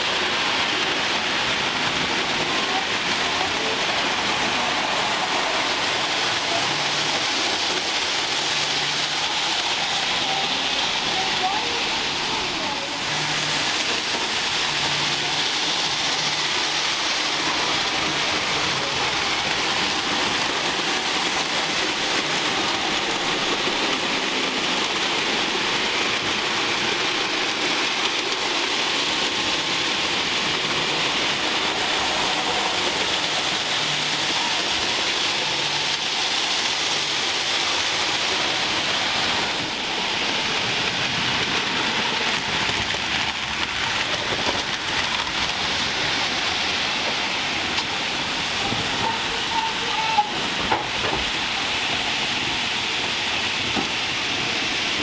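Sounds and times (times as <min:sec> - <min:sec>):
model trains whirring on rails: 0:00.0 - 0:55.0.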